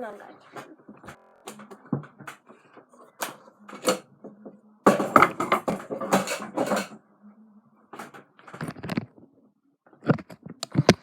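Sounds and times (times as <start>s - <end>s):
clattering and rustling: 0.2s - 7.0s, 7.9s - 11.0s
objects knocking and clicking: 0.4s - 7.0s, 7.9s - 9.3s, 9.9s - 11.0s.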